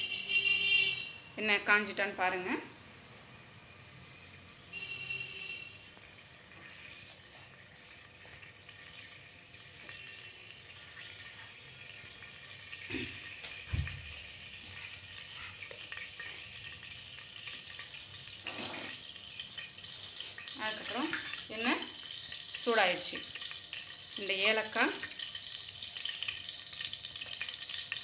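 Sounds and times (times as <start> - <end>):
oil sizzling: 1.5 - 28.0.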